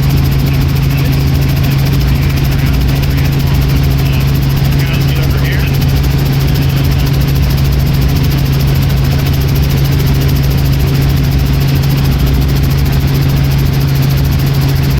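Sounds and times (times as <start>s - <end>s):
helicopter running: 0.0s - 14.9s.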